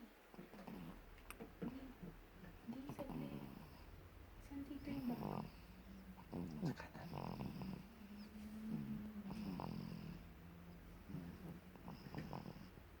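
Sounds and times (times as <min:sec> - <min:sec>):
baby snoring softly: 0:00.4 - 0:13.0
steady low drone: 0:00.9 - 0:13.0.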